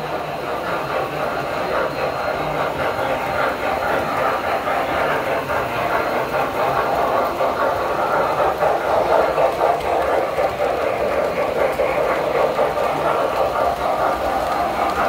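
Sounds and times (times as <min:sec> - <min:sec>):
toy train wheels clattering on rails: 0:00.0 - 0:15.0.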